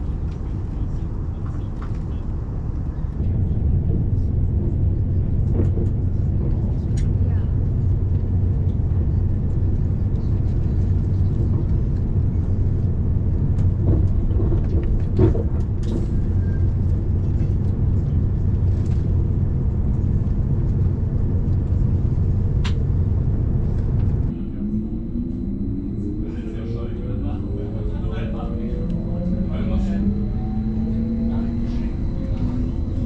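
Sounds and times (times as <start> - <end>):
moving vehicle rumble: 0.0 - 33.0.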